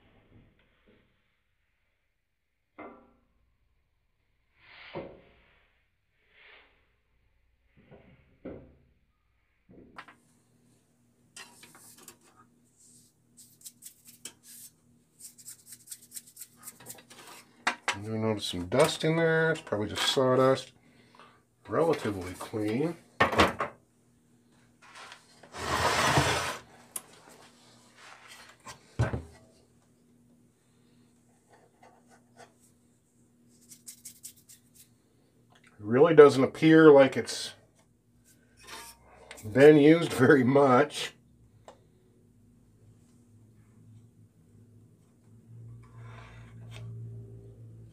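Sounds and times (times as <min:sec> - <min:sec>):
faint room hum: 0:08.9 - 0:47.9.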